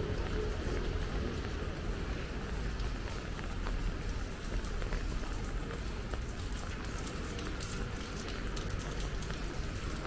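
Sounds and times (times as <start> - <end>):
low steady rain rumble: 0.0 - 10.0
rain drops ticking: 0.0 - 10.0.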